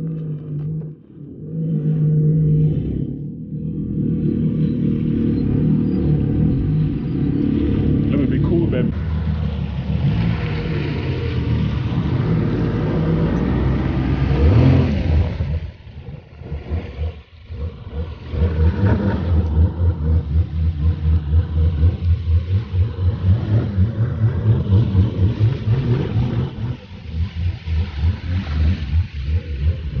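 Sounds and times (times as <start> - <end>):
jet ski engine running: 0.0 - 30.0.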